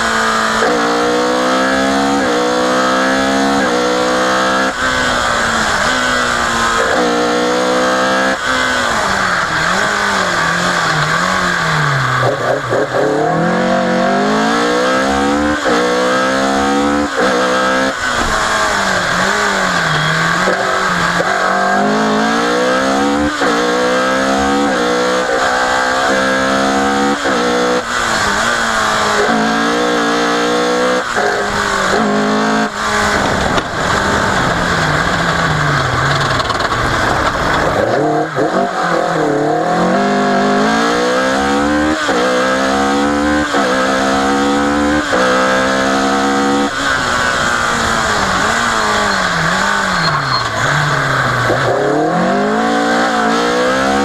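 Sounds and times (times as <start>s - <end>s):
rally car engine at full throttle: 0.0s - 54.0s.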